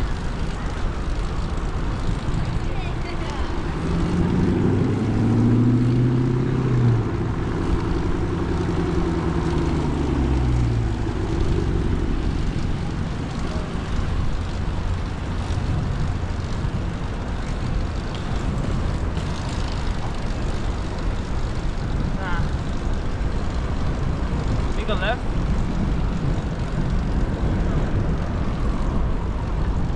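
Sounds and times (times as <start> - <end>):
road rumble: 0.0 - 29.9
vehicle engine droning: 0.0 - 29.9
wind on microphone: 0.0 - 29.9.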